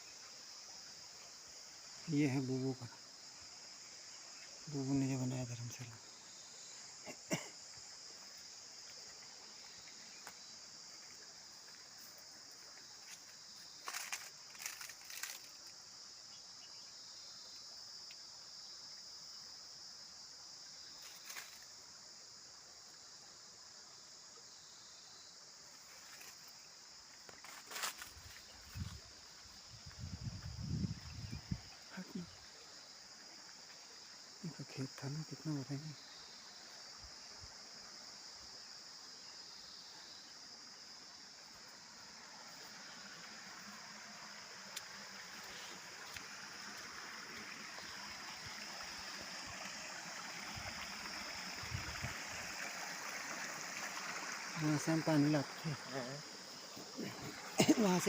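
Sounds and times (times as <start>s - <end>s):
insects chirring: 0.0s - 58.0s
soft outdoor hiss: 0.0s - 58.0s.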